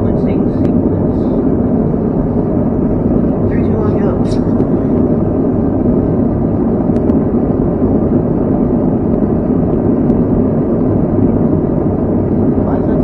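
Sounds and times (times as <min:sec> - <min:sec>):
faint steady hum: 0:00.0 - 0:13.0
forge roaring: 0:00.0 - 0:13.0.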